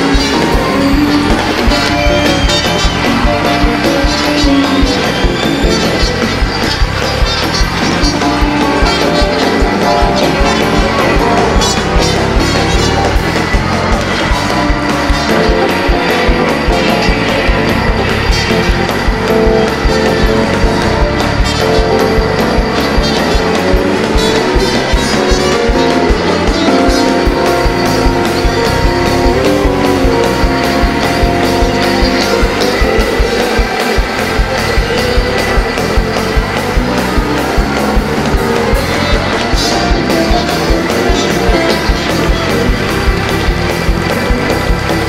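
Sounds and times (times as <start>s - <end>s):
upbeat gospel band music: 0.0s - 45.0s.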